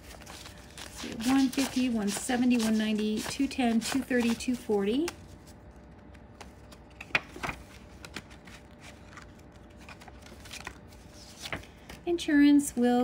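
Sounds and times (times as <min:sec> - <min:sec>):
binder pages turning: 0:00.0 - 0:12.0
paper banknotes rustling: 0:00.0 - 0:12.0.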